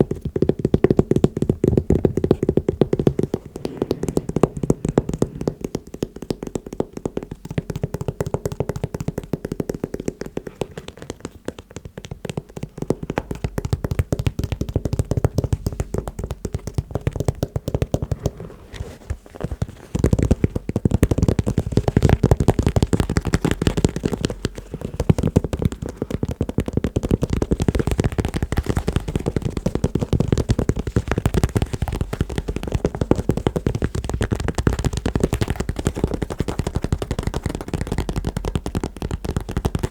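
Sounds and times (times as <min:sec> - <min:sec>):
fast tapping on shoes: 0:00.0 - 0:39.9.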